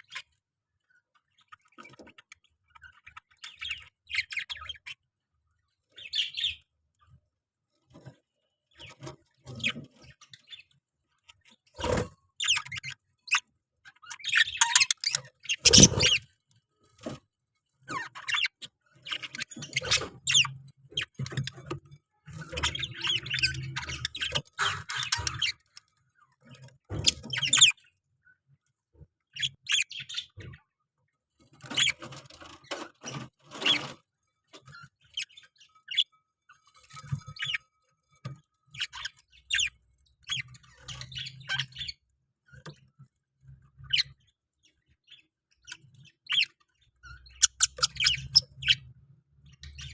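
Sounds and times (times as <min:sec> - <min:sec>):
parrots chirping and chattering: 0:00.0 - 0:05.0, 0:05.9 - 0:07.0, 0:08.7 - 0:16.4, 0:17.9 - 0:28.0, 0:29.2 - 0:30.7, 0:31.6 - 0:49.9.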